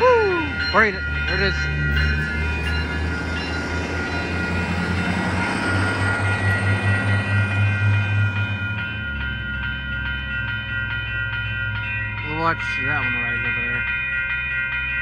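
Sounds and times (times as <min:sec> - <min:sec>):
diesel train engines: 0:00.0 - 0:15.0
wheels rushing on rail: 0:00.0 - 0:15.0.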